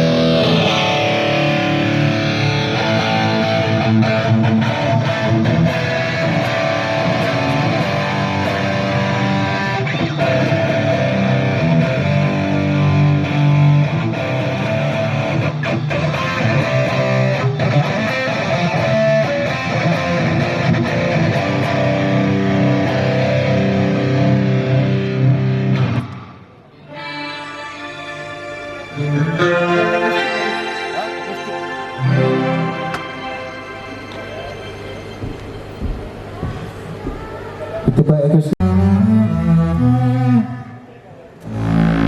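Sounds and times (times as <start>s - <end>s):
live band playing: 0.0s - 37.6s
electric guitar: 0.0s - 38.0s, 38.6s - 42.0s.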